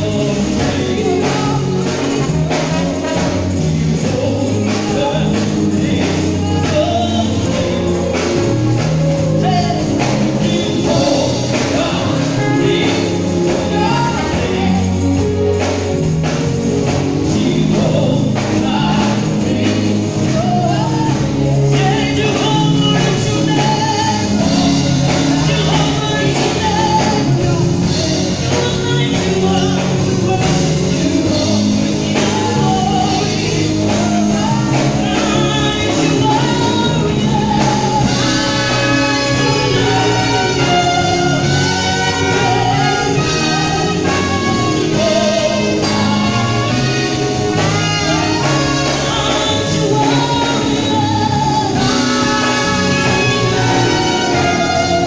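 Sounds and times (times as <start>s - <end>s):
drums keeping a steady beat: 0.0s - 55.0s
live band playing: 0.0s - 55.0s
woman singing gospel: 0.0s - 55.0s.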